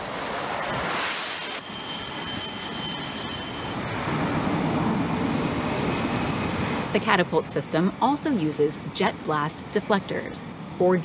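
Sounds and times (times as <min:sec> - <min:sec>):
jet fighter engines roaring: 0:00.0 - 0:11.0.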